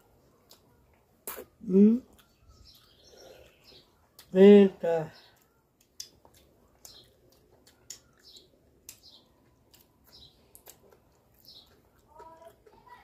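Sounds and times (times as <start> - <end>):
chewing: 0.2 - 4.3, 5.2 - 13.0.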